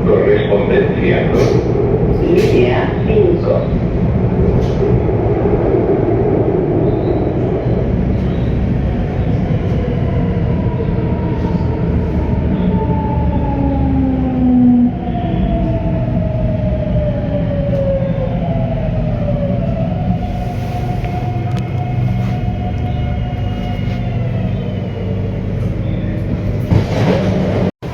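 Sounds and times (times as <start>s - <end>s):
train running rumble: 0.0s - 27.9s.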